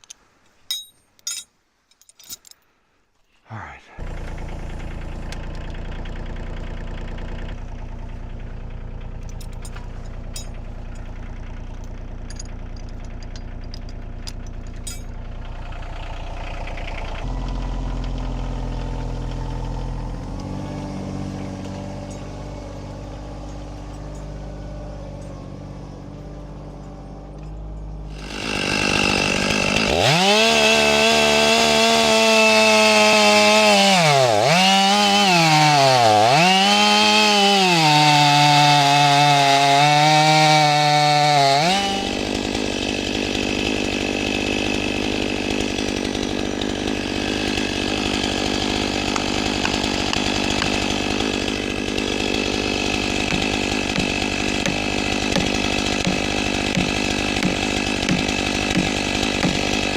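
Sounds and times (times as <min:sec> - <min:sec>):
chainsaw running at high revs: 0:04.0 - 0:27.4, 0:28.0 - 0:59.9.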